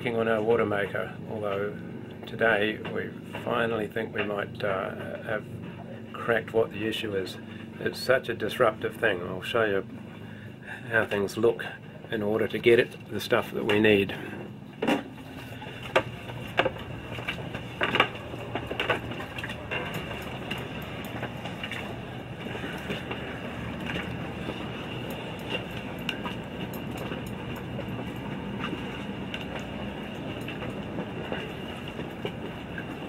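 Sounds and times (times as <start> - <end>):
low rumble with faint hum: 0.0 - 33.0.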